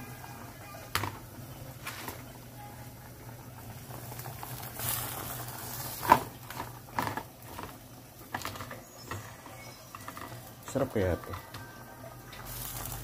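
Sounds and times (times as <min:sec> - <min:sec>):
pot boiling with hissing bubbles: 0:00.0 - 0:13.0.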